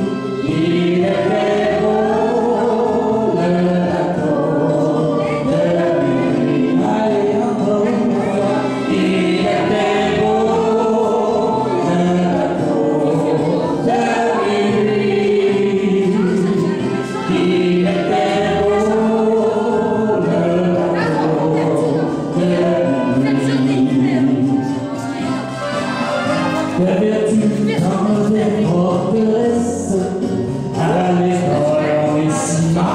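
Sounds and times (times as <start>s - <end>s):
man and woman singing duet: 0.0s - 25.3s, 26.0s - 32.9s
karaoke backing track: 0.0s - 32.9s.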